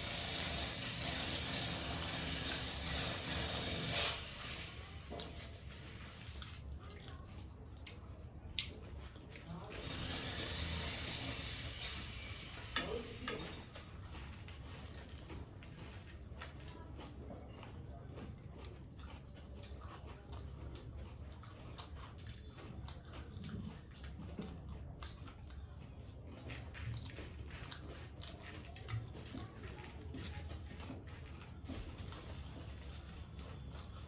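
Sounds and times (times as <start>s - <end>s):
chewing crunchy puffed rice: 0.0s - 34.0s.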